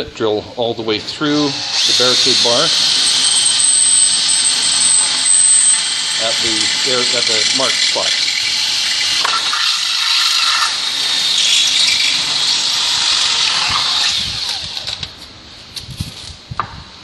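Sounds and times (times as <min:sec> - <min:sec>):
drill boring through metal: 0:01.2 - 0:15.2.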